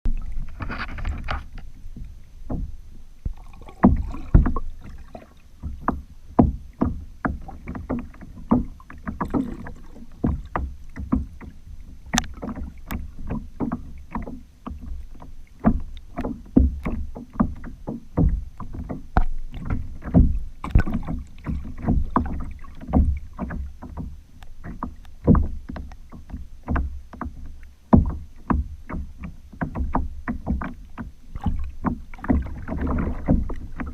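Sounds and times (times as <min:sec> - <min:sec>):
water knocking against a kayak: 0:00.1 - 0:33.9.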